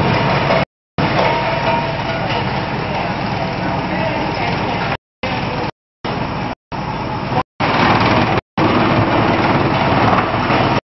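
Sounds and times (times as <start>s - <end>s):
wood chipper running: 0.0s - 10.8s.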